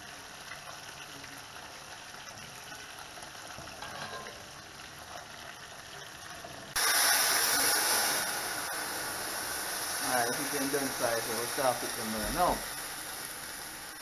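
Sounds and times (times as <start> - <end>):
liquid sizzling in hot pan: 0.0 - 14.0.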